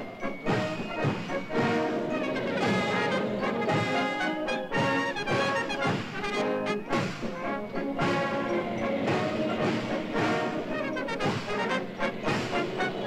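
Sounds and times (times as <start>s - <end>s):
brass band playing a march: 0.0s - 13.0s.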